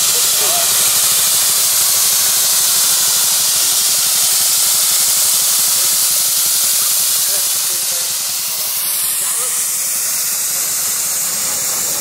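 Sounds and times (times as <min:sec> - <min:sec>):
steam engine hissing steam: 0:00.0 - 0:12.0.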